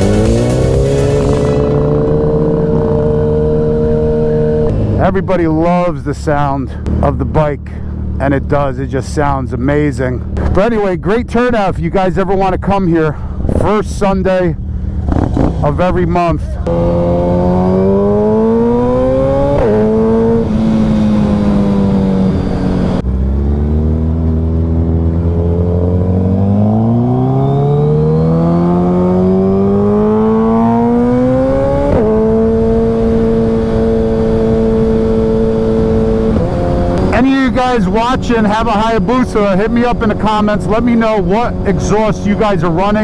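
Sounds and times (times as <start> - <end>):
motorcycle engine accelerating: 0.0 - 10.6, 14.5 - 43.0.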